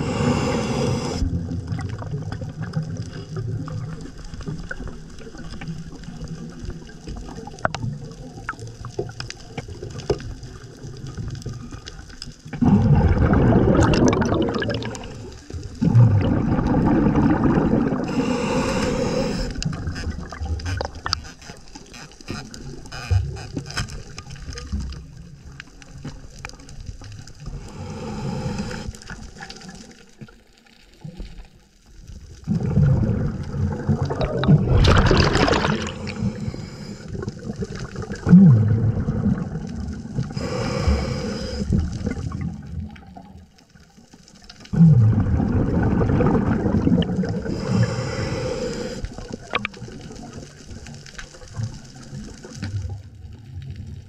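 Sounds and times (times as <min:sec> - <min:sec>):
regulator bubbles gurgling: 0:00.0 - 0:21.9, 0:32.2 - 0:54.0
underwater water noise: 0:00.0 - 0:54.0.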